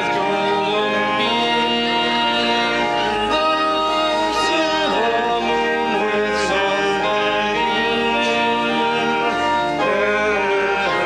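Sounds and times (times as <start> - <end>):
held accompanying notes: 0.0 - 11.0
man singing a hymn: 0.0 - 11.0.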